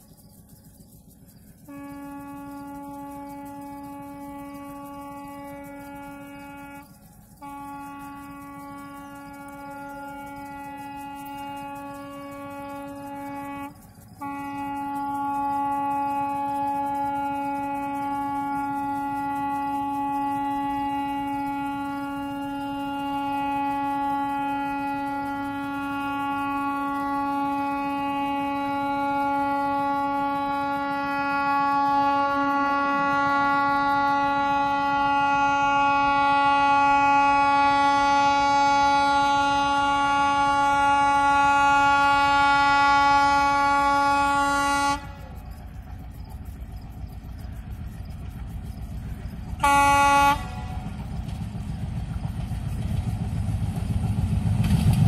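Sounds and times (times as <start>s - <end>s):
locomotive horn blast: 1.5s - 55.0s.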